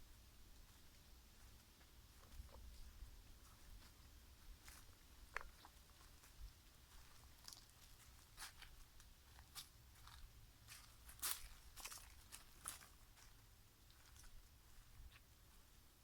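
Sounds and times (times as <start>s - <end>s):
footsteps crunching on forest floor: 0.6s - 15.7s.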